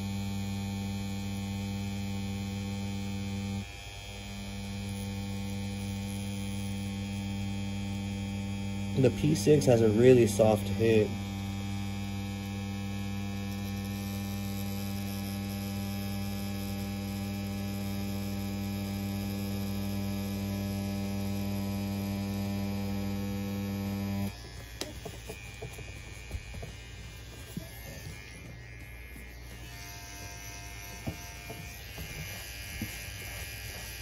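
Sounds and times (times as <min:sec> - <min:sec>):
tattoo pen buzzing: 0:00.0 - 0:34.0.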